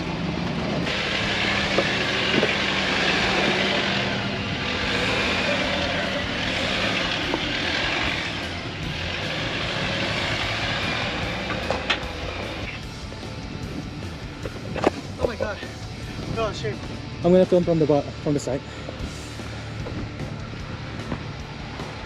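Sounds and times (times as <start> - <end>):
off-road engine under load: 0.0 - 22.0.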